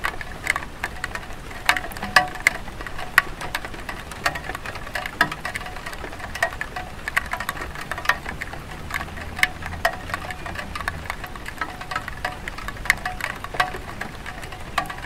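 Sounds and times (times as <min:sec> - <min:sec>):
rain drops on tile roof: 0:00.0 - 0:15.0.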